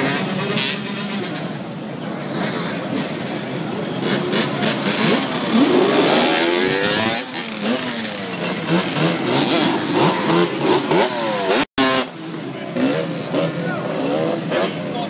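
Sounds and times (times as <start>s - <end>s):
motorcycle engines revving: 0.0s - 15.0s
street noise: 0.0s - 15.0s.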